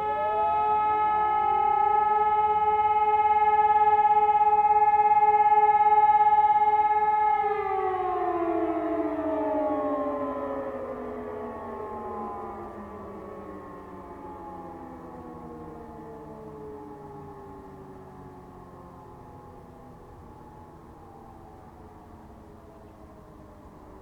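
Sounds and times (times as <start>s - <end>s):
distant siren steady tone: 0.0s - 24.0s
motor sirens howling: 0.0s - 24.0s.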